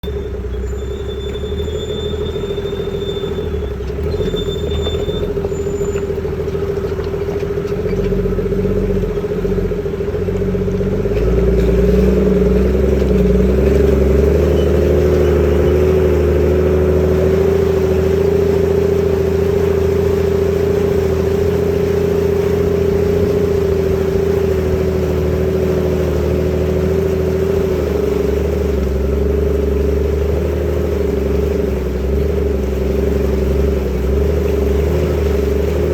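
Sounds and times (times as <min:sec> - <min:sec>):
engine droning whine: 0:00.0 - 0:35.9.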